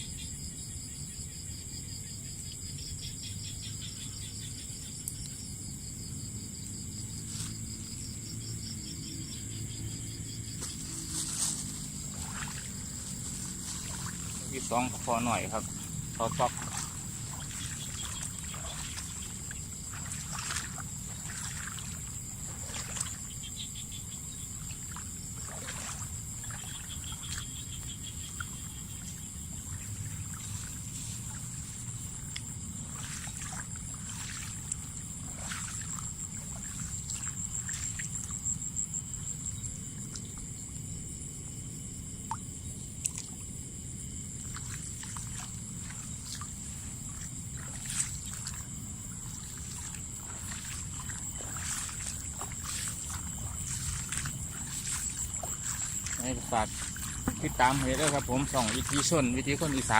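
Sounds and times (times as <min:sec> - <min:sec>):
insects whining: 0:00.0 - 0:59.9
water trickling and splashing: 0:02.4 - 0:59.9.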